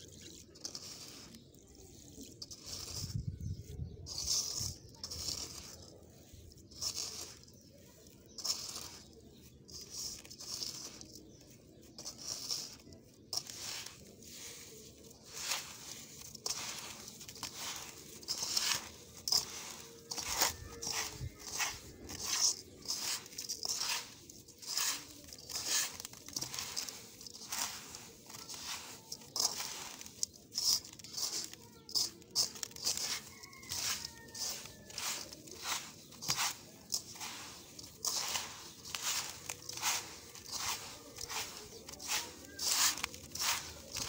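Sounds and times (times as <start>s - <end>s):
damp sand crunching: 0.0s - 44.0s.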